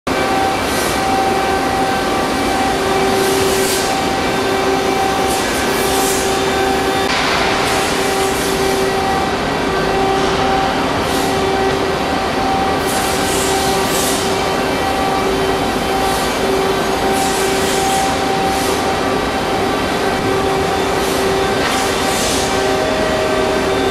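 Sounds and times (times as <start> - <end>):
lathe machine noise: 0.1 - 23.9.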